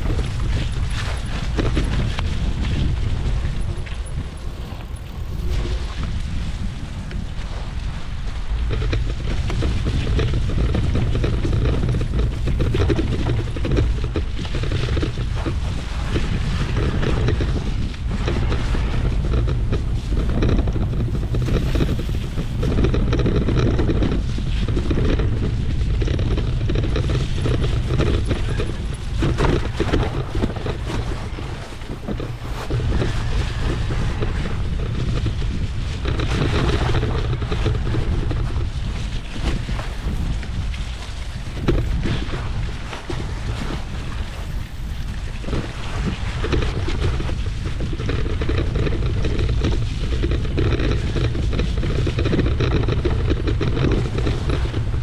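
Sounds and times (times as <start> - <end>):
bike knocks and rattles: 0.0 - 6.4, 8.6 - 55.0
bike tyre noise: 0.0 - 55.0
wind buffeting microphone: 0.0 - 55.0.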